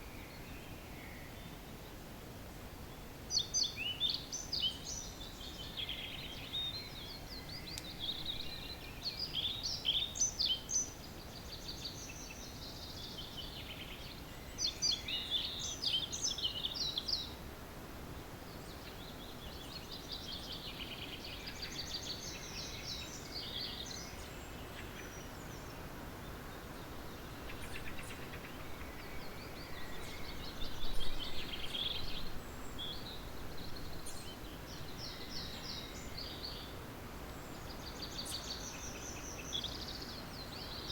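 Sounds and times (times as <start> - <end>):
songbirds singing: 0.0 - 2.2, 2.8 - 40.9.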